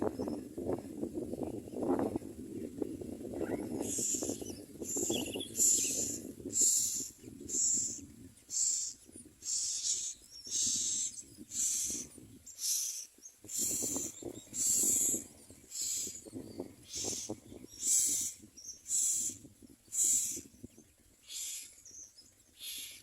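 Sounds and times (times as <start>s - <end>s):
nestlings harsh begging calls: 3.4s - 20.5s, 21.2s - 23.0s.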